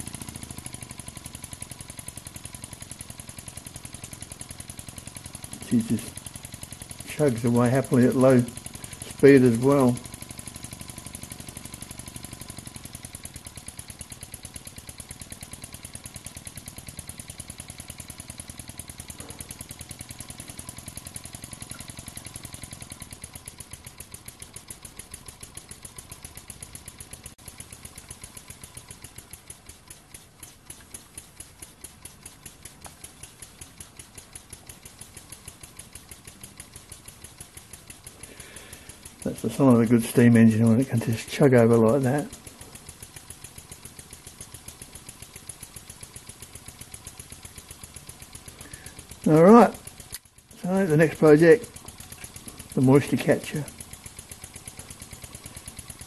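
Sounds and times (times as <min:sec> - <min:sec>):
model steam engine chugging: 0:00.0 - 0:56.0.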